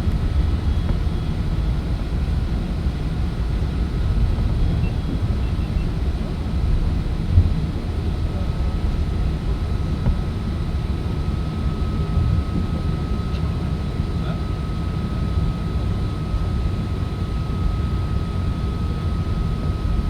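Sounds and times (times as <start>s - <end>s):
airplane cabin rumble: 0.0s - 20.0s
faint steady hum: 0.0s - 20.0s.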